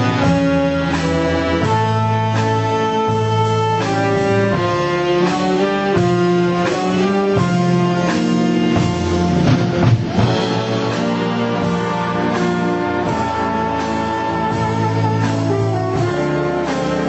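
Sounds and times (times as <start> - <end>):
big band playing slow ballad: 0.0 - 17.0.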